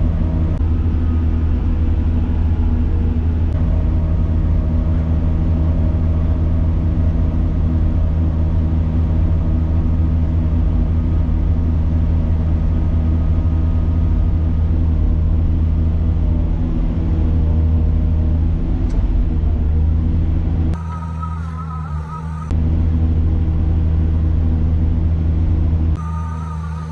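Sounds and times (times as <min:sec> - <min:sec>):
heavy machinery engine drone: 0:00.0 - 0:26.9.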